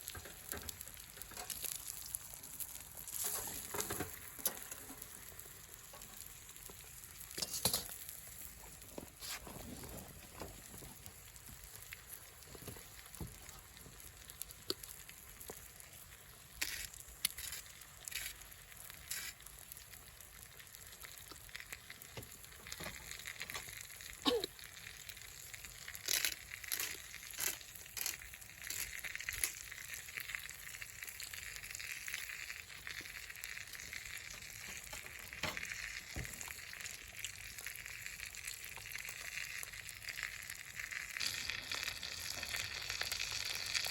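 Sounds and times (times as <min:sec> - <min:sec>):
food sizzling in a pan: 0:00.0 - 0:43.9
pops and crackles: 0:00.0 - 0:43.9.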